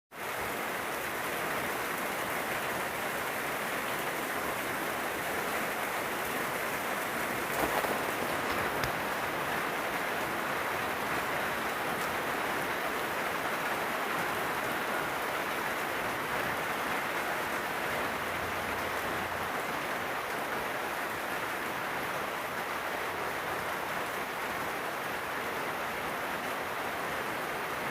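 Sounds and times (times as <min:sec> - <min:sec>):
heavy rain pouring: 0:00.2 - 0:27.9.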